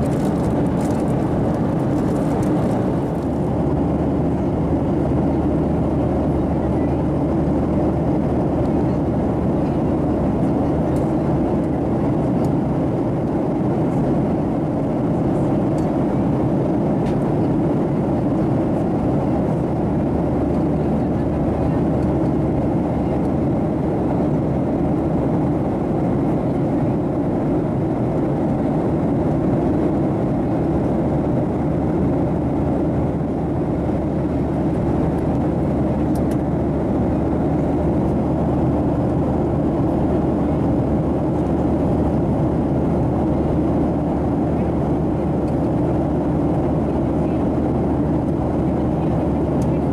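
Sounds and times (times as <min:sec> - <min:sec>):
airplane cabin engine drone: 0:00.0 - 0:49.9.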